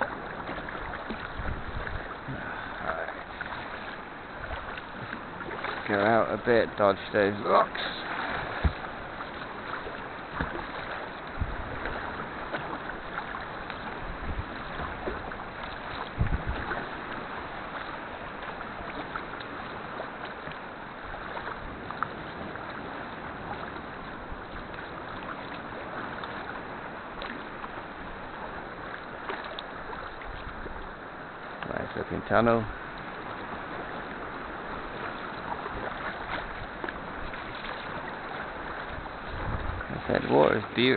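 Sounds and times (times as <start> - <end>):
water splashing around kayak: 0.0 - 40.9.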